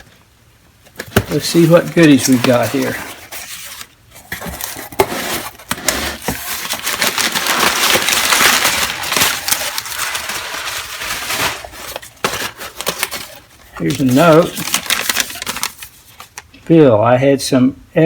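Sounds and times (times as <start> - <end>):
packing material crinkling: 0.9 - 16.6.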